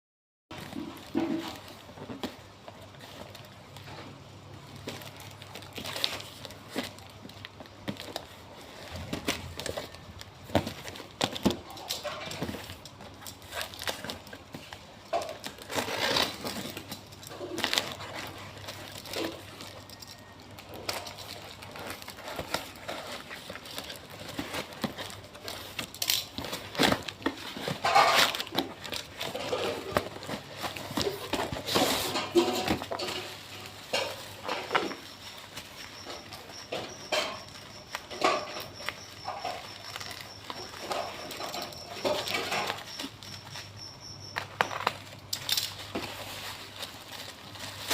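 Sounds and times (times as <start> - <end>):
packaging crinkling and rustling: 0.5 - 47.9.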